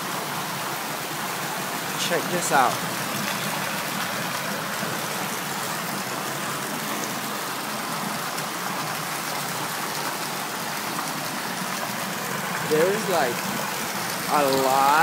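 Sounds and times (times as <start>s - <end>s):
floodwater rushing in street: 0.0s - 15.0s
heavy rain pouring: 0.0s - 15.0s.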